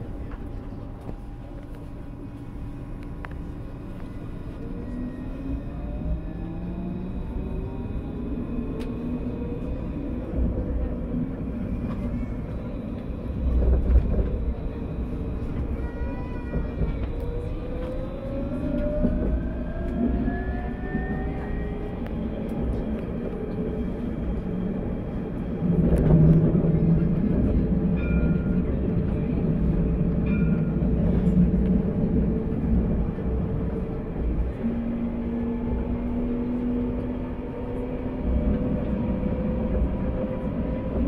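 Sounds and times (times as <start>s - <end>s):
tram rumbling on rails: 0.0s - 41.0s.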